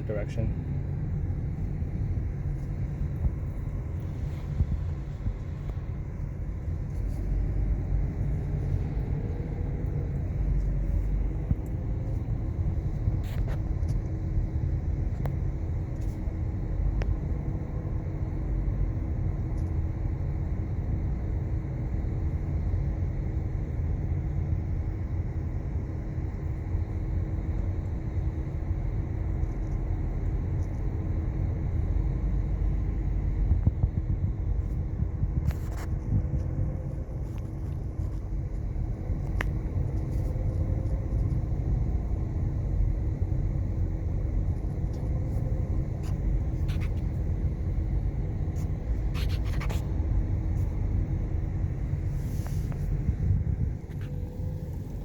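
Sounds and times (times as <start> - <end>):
car engine and road noise: 0.0 - 55.0
faint steady hum: 0.0 - 55.0.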